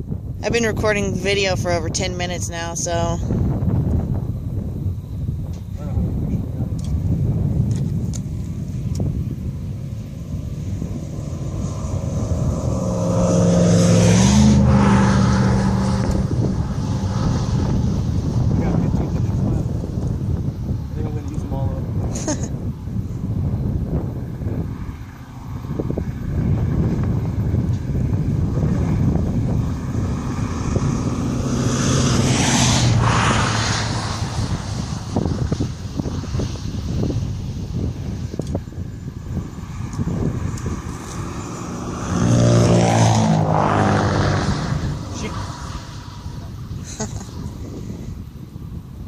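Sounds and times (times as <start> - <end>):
wind noise on microphone: 0.0 - 49.0
vehicle passing by: 8.6 - 48.2.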